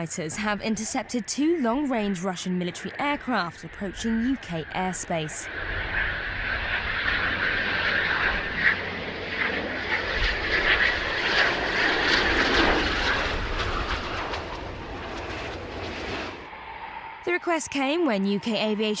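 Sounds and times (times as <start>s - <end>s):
military aircraft engine roar: 0.0s - 19.0s.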